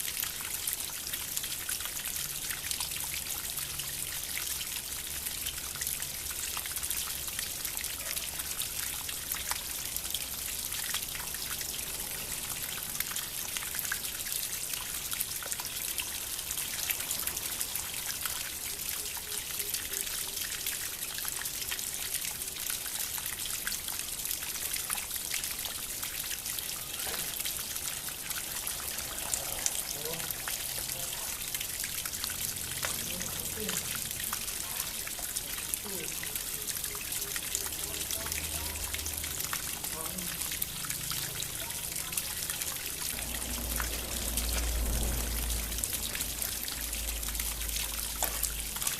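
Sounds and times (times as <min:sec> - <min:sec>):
water fountain trickling: 0:00.0 - 0:48.9.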